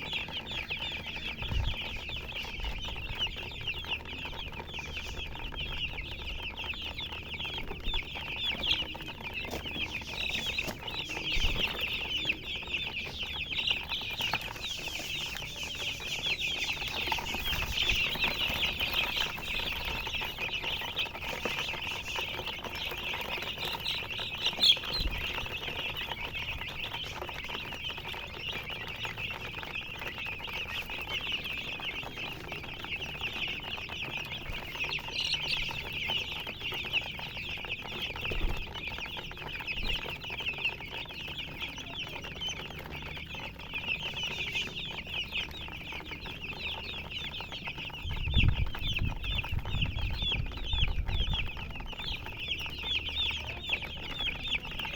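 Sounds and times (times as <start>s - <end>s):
baby chicks peeping: 0.0s - 54.9s.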